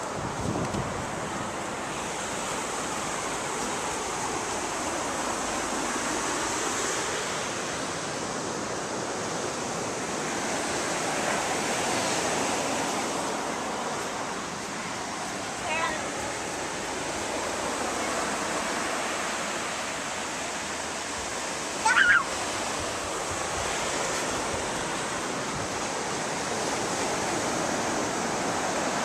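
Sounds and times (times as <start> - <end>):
ocean surf breaking: 0.0 - 29.0.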